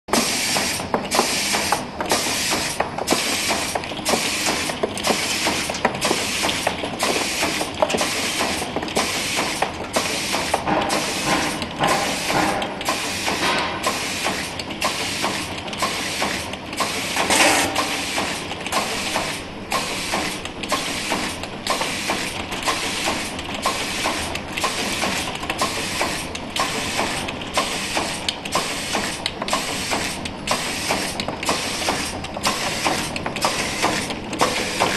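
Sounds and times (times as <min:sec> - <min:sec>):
machine clattering rhythmically: 0:00.6 - 0:34.9.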